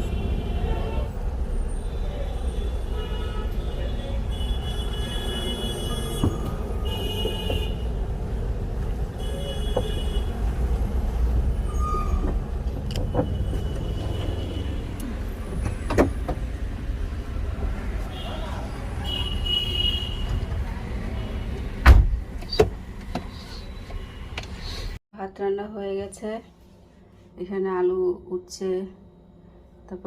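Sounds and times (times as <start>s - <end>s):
road traffic: 0.0s - 25.0s
vehicle engine rumbling: 0.0s - 25.0s.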